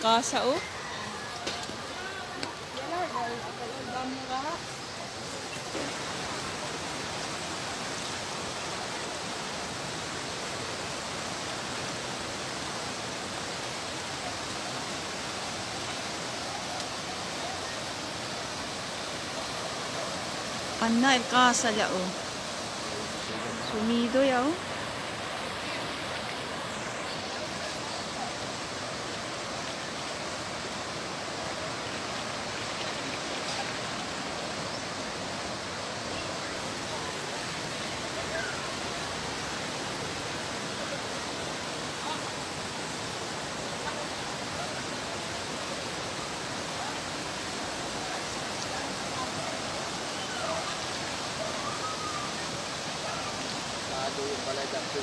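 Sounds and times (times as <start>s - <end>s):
flood water rushing: 0.0s - 55.0s.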